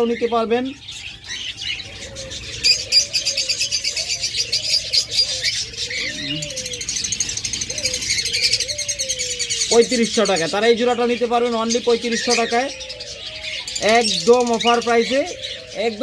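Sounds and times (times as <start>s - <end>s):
birds chirping and chattering: 0.0s - 16.0s
doves cooing: 0.0s - 16.0s.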